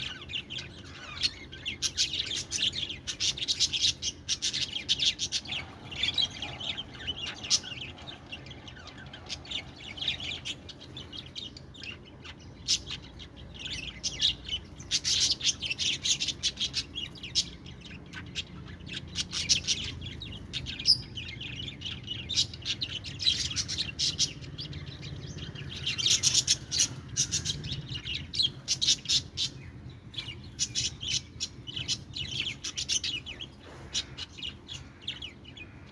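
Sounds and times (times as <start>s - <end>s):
budgies chirping and warbling: 0.0s - 35.9s.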